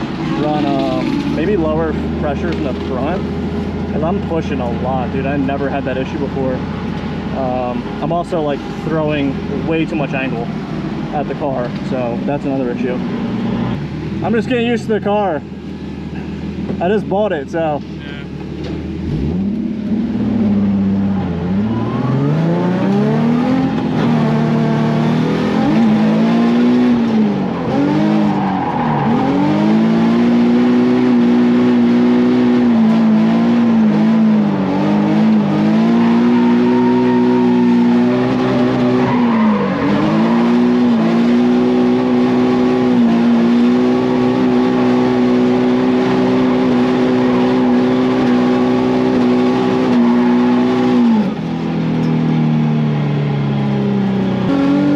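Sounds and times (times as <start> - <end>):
car engine at high revs: 0.0 - 54.9.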